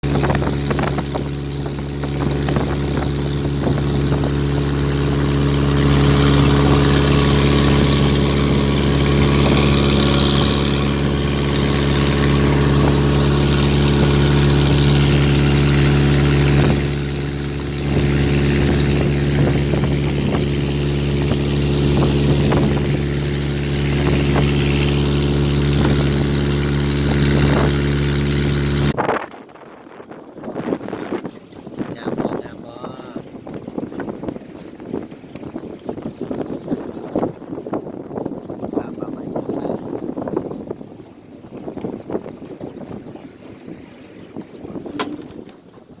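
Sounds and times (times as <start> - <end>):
boat engine drone: 0.0 - 46.0
water rushing past hull: 0.0 - 46.0.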